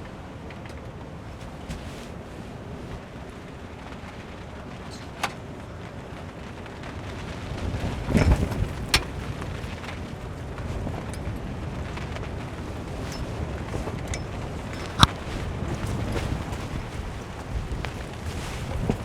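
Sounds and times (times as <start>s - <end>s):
steady rain: 0.0s - 19.0s
heavy raindrops tapping: 3.0s - 19.0s.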